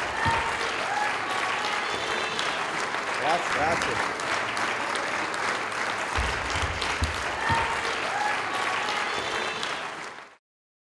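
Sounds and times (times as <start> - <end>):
audience applauding: 0.0 - 10.4
faint crowd voices: 0.0 - 10.4.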